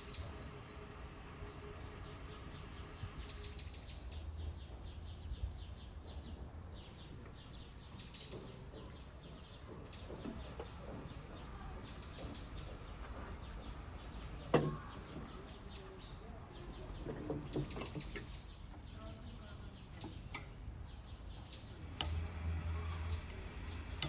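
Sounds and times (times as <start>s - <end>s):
low steady background hum: 0.0s - 24.0s
small birds chirping and trilling: 0.0s - 24.0s.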